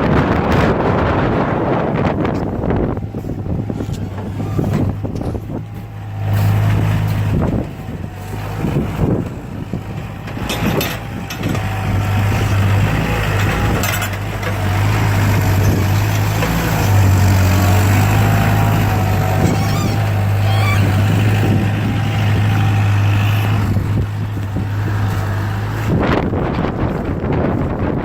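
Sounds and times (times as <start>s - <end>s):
loader engine running: 0.0s - 28.0s.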